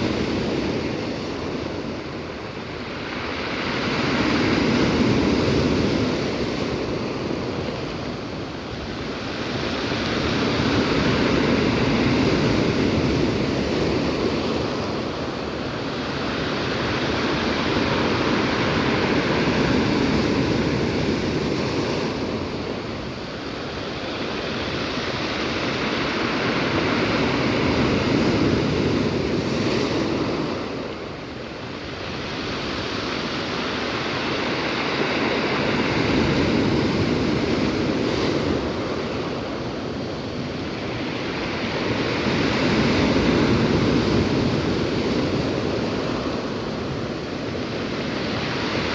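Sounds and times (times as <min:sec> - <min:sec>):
waves breaking ashore: 0:00.0 - 0:48.9.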